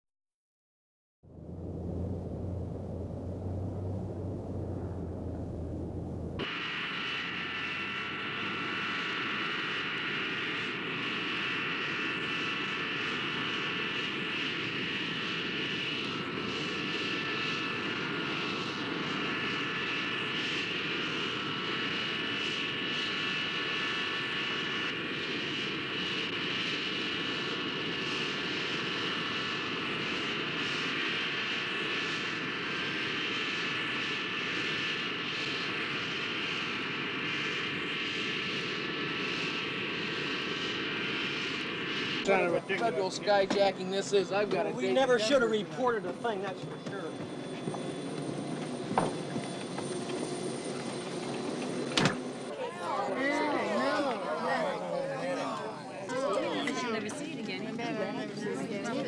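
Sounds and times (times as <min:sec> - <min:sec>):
jet engines idling: 0:01.3 - 0:59.0.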